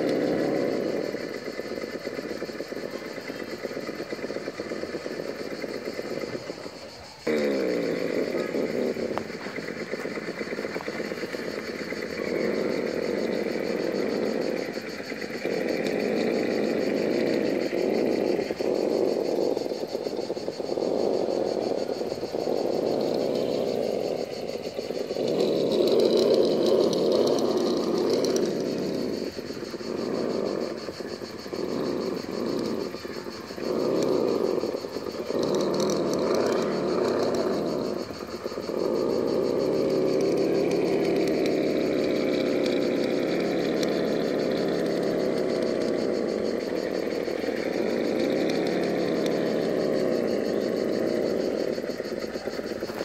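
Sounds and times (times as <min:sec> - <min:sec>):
rc car motor whining: 0:00.0 - 0:17.5, 0:21.8 - 0:53.0.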